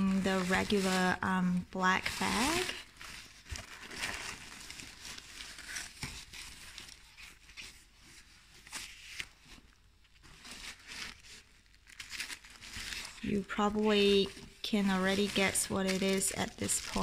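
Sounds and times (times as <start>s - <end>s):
tissue paper and fabric rustling: 0.0s - 17.0s.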